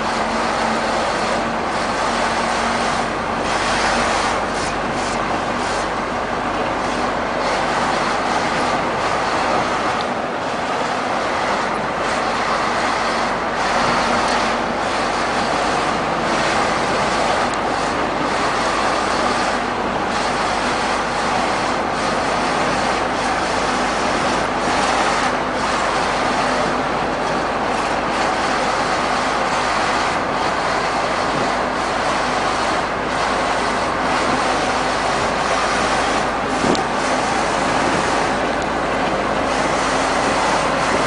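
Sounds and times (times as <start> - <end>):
heavy trucks on a highway: 0.0 - 41.0.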